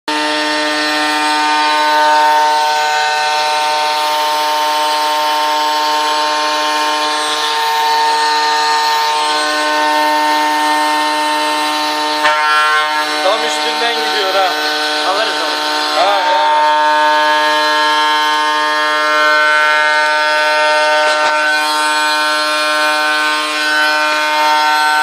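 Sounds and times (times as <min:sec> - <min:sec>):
metal cutting noise: 0:00.1 - 0:25.0
router spindle whine: 0:00.1 - 0:25.0.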